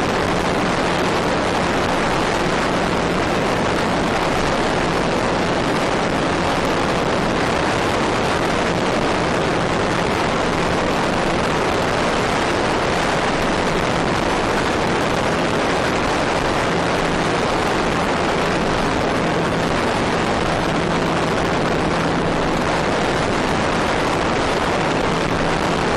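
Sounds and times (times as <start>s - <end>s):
rushing wind: 0.0s - 25.9s.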